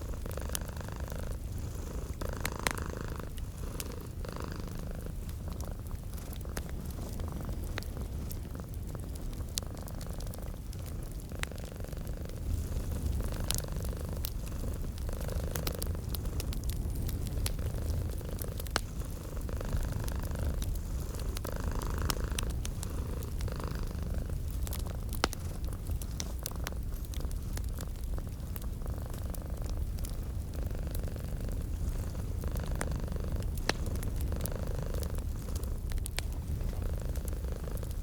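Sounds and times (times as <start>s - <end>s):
cat purring: 0.0s - 38.0s
wood fire crackling: 0.0s - 38.0s.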